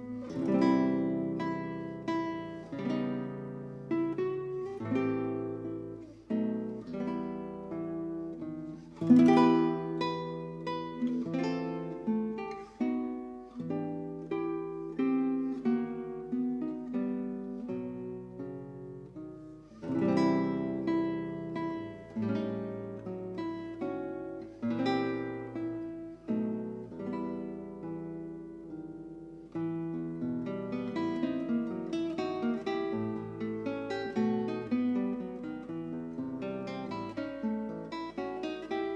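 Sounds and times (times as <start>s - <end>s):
solo acoustic guitar music: 0.0s - 38.9s.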